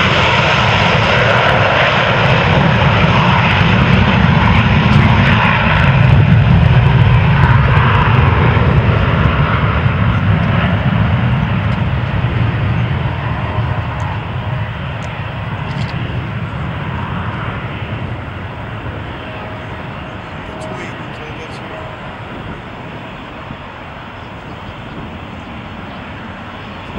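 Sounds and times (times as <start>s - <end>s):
jet engine roar: 0.0s - 26.9s.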